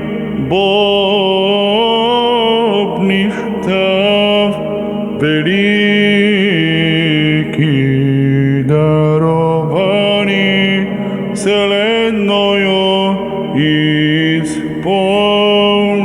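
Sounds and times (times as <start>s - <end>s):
person chanting slowly: 0.0s - 16.0s.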